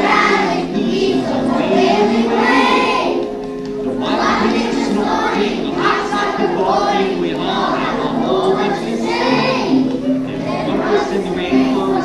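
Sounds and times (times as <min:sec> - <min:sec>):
children singing: 0:00.0 - 0:12.0
musical accompaniment: 0:00.0 - 0:12.0.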